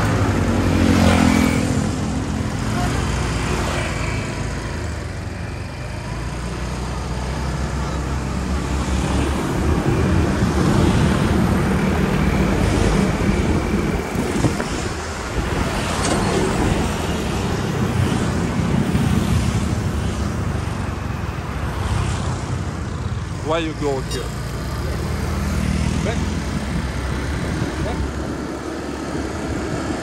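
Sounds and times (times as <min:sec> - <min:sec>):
motorbikes and cars passing: 0:00.0 - 0:30.0
road and wind noise: 0:00.0 - 0:30.0.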